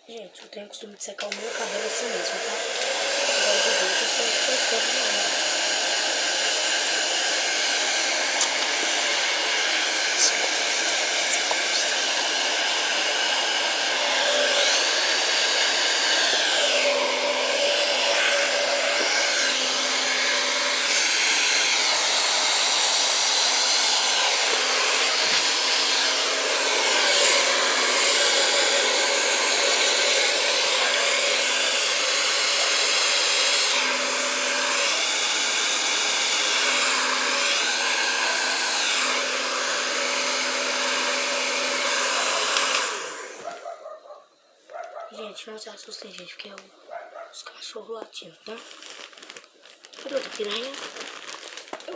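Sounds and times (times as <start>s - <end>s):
hair dryer blowing: 1.2s - 43.9s, 50.0s - 51.9s.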